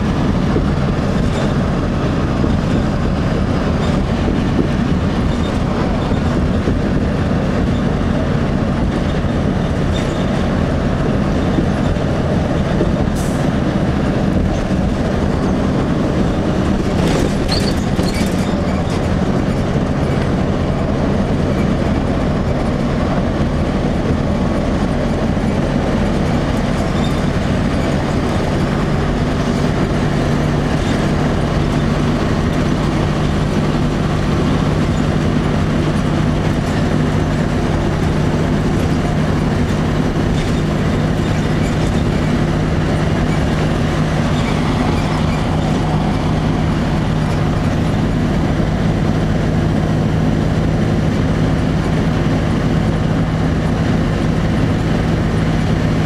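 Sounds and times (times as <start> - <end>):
bus diesel engine droning: 0.0 - 56.0
road and tyre noise: 0.0 - 56.0.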